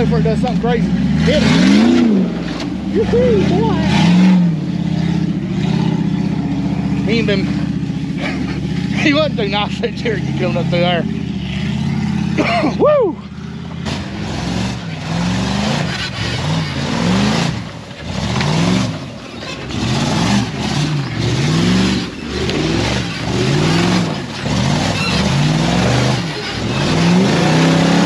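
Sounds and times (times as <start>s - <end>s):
off-road vehicle engine revving: 0.0s - 28.0s.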